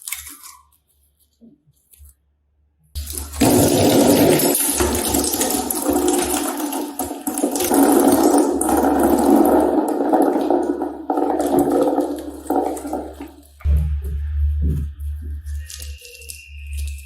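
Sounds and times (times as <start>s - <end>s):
slime squelching: 3.0s - 17.0s.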